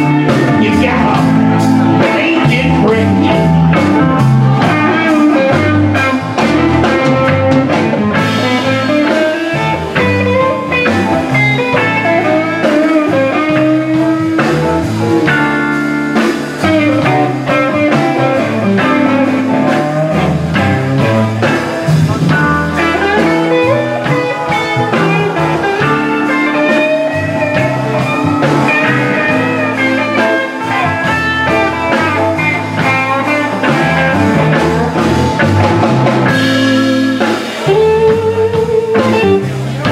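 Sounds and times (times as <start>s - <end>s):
blues band playing: 0.0s - 39.9s
electric guitar lead runs: 0.0s - 39.9s.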